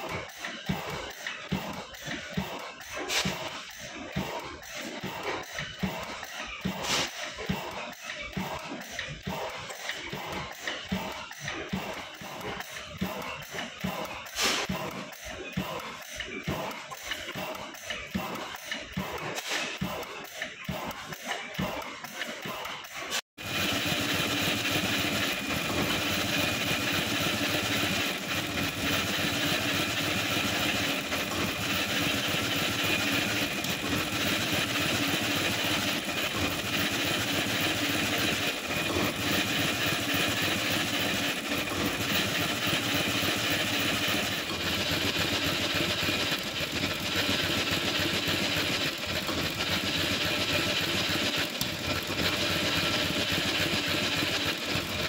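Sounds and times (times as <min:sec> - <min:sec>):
stationary engine running: 0:00.0 - 0:55.0.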